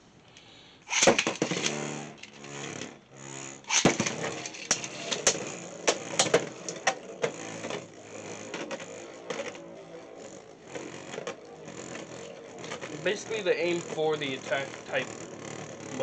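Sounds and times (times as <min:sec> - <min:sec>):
spinning tops whirring: 0:00.0 - 0:16.0
tops clacking together: 0:00.9 - 0:02.9, 0:03.6 - 0:16.0.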